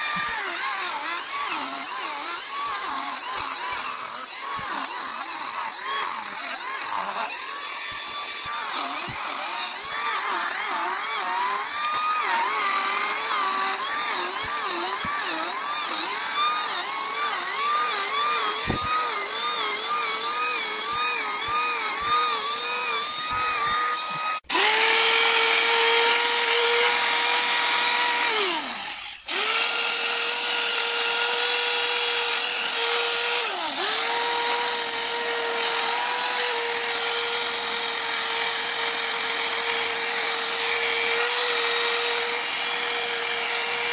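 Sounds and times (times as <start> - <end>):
cordless drill whining: 0.0 - 43.9
rotary grinder sanding wood: 0.0 - 43.9.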